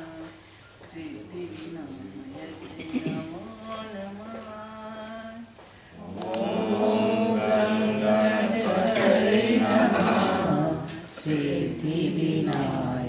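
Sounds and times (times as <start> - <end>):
group singing devotional song: 2.3 - 13.0.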